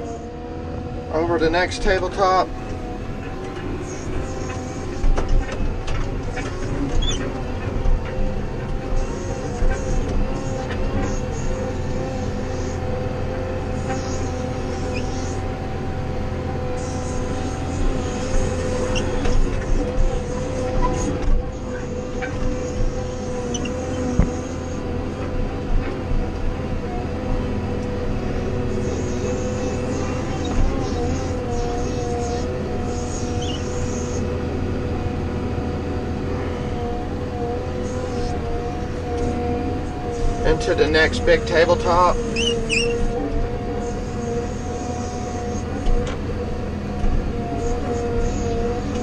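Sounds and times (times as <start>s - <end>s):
diesel engine under load: 0.0s - 49.0s
steady whine: 0.0s - 49.0s.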